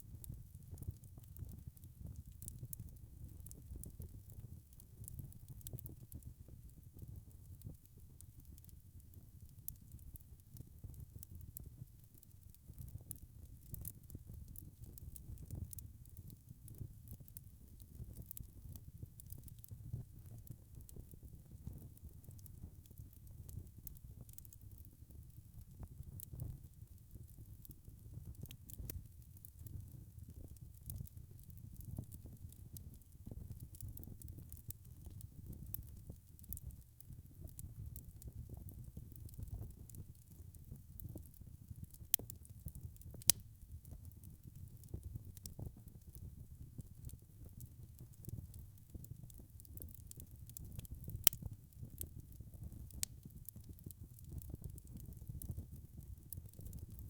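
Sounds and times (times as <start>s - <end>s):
fire crackles and pops: 0.0s - 57.0s
low rumble of flames: 0.0s - 57.0s.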